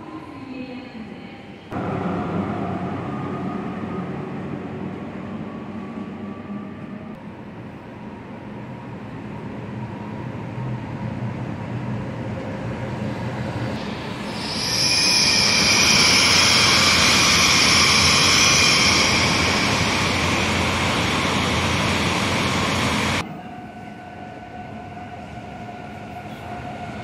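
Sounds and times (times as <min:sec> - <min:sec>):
train rumbling through station: 0:00.0 - 0:27.0.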